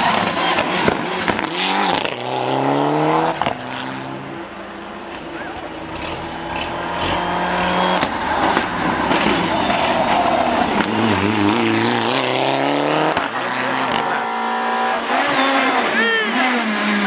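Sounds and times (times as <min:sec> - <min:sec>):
rally car engine full throttle: 0:00.0 - 0:17.0.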